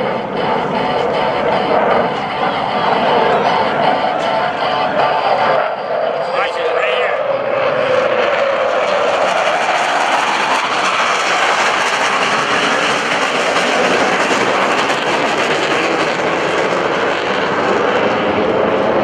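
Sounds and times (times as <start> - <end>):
jet engines roaring past: 0.0 - 19.0.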